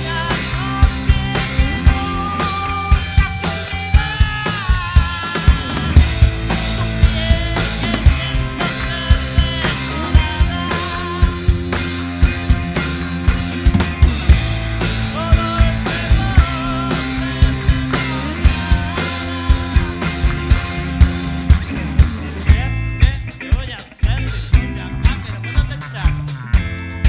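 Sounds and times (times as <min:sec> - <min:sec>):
band playing instrumental: 0:00.0 - 0:27.0
drum kit beat: 0:00.0 - 0:27.0.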